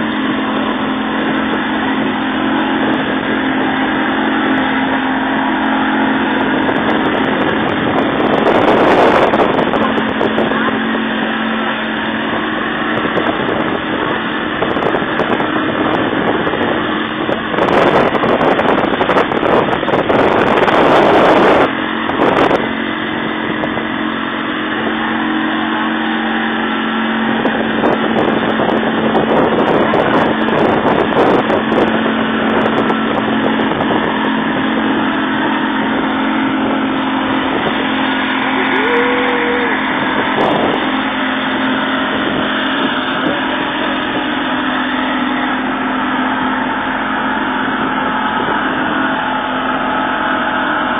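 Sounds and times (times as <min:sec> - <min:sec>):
motorboat engine drone: 0:00.0 - 0:50.9
water and wind rushing: 0:00.0 - 0:50.9.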